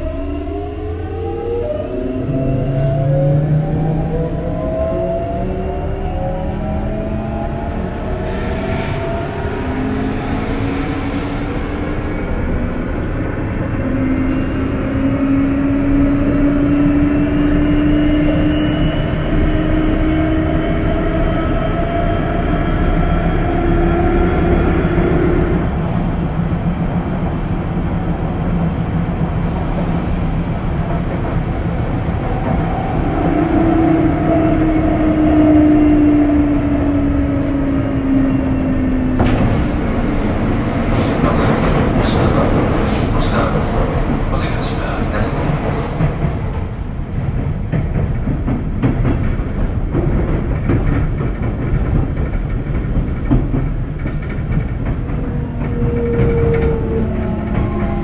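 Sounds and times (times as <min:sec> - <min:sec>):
wheels rumbling on rail: 0:00.0 - 0:58.0.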